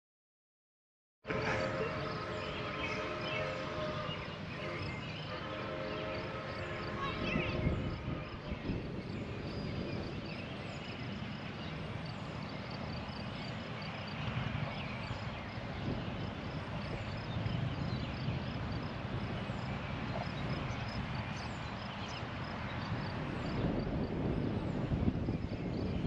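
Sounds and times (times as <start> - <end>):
wind rumbling on microphone: 2.4 - 26.0.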